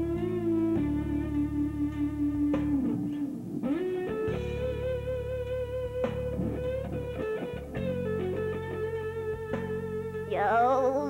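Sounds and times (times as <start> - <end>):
electric guitar long note: 0.0 - 11.0
low bass notes: 0.0 - 11.0.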